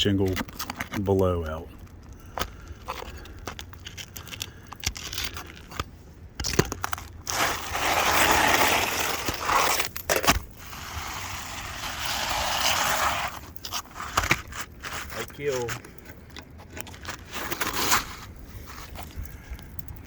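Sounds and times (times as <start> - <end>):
shingle scraping: 0.0 - 20.0.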